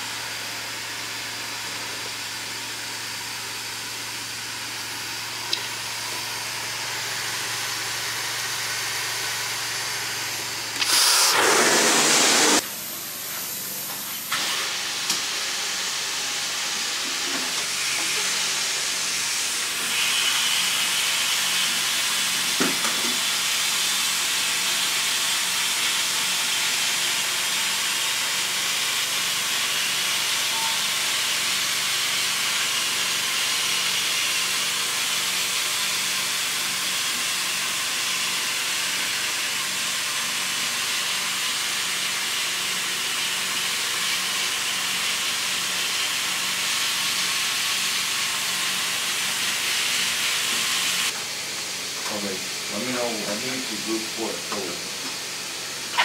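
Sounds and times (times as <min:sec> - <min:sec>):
vacuum hiss of water extraction: 0:00.0 - 0:56.0.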